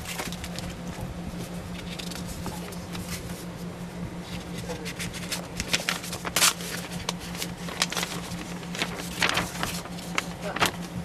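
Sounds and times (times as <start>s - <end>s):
paper rustling and crackling: 0.0s - 3.6s, 4.2s - 11.0s
steady low hum: 0.0s - 11.0s.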